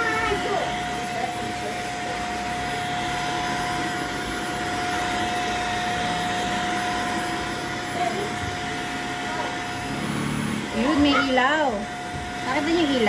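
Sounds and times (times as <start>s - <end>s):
vacuum cleaner whining: 0.0s - 13.0s.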